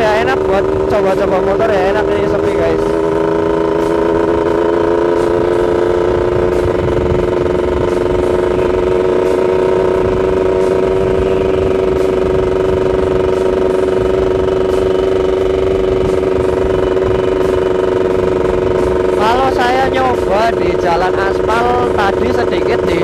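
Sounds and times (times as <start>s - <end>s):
two-stroke motorcycle engine cruising: 0.0s - 23.0s.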